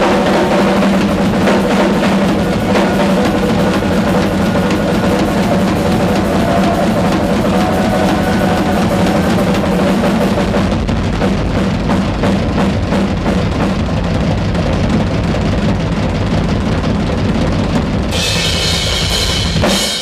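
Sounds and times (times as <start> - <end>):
drum solo: 0.0 - 20.0.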